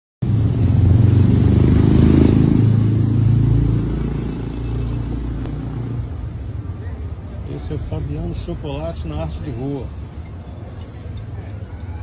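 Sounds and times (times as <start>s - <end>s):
vehicle engine rumbling: 0.2s - 12.0s.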